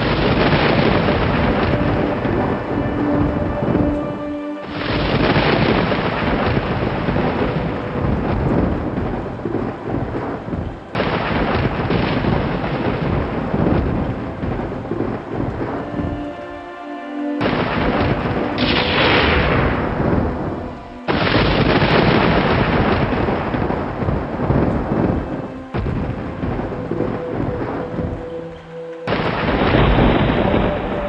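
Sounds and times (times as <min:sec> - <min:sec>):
thunder rumbling: 0:00.0 - 0:16.6, 0:17.4 - 0:31.0
heavy rain: 0:00.0 - 0:31.0
soft sustained music tones: 0:00.0 - 0:31.0.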